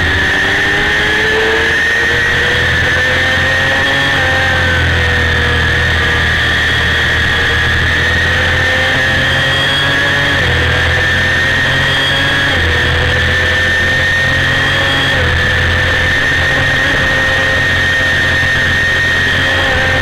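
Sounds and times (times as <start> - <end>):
motorcycle engine high-pitched whine: 0.0 - 20.0.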